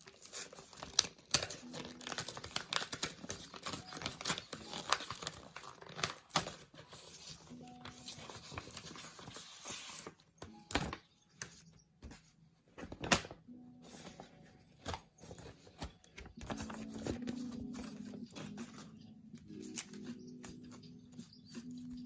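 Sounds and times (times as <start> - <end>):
packaging and paper handled: 0.0 - 22.0
paper rustle: 0.0 - 22.0
quiet background music: 0.0 - 22.0.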